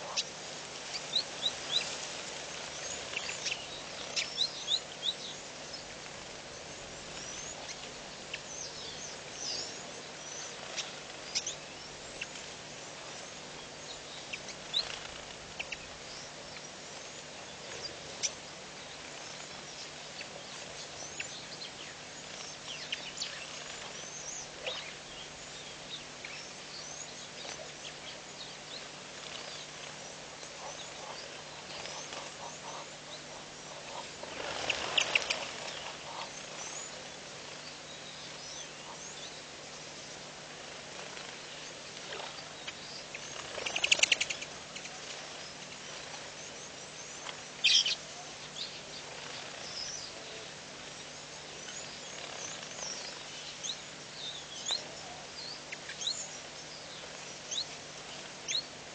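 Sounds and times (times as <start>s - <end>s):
birds chirping: 0.0s - 58.9s
faint low hum: 0.0s - 58.9s
outdoor hiss: 0.0s - 58.9s.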